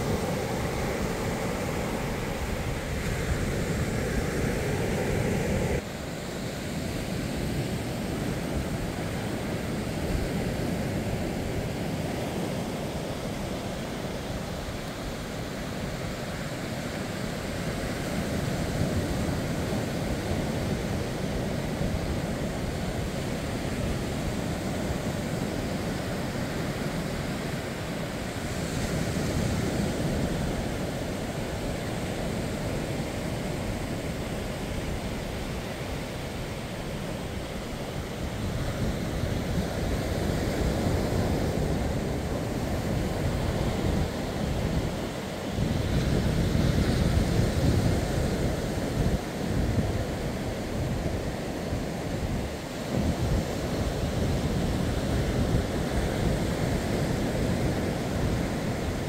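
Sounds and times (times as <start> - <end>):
waves washing up a beach: 0.0 - 59.0
wind rumble on microphone: 0.0 - 59.0.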